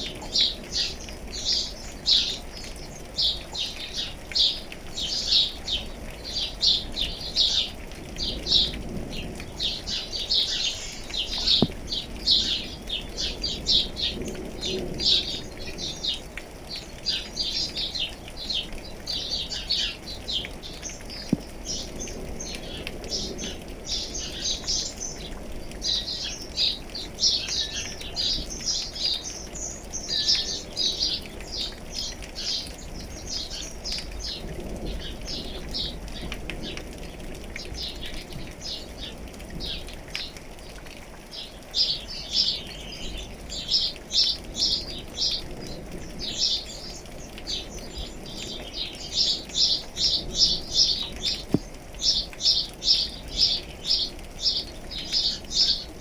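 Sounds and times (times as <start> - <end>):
rain hiss: 0.0 - 56.0
small birds chirping: 0.0 - 56.0.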